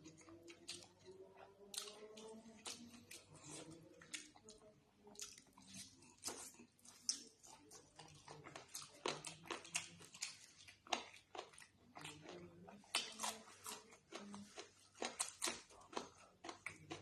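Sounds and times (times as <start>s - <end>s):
wet chewing and lip smacks: 0.0s - 17.0s.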